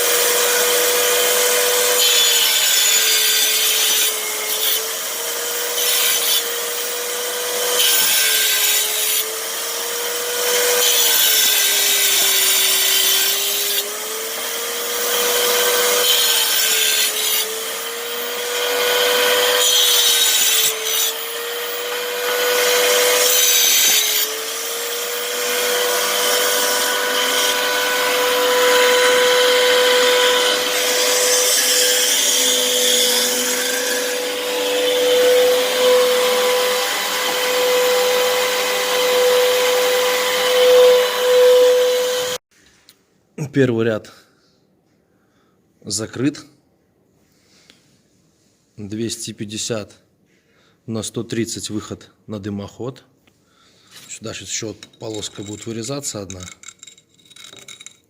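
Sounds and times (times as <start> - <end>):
gritty brick cutting noise: 0.0 - 42.4, 53.8 - 58.0.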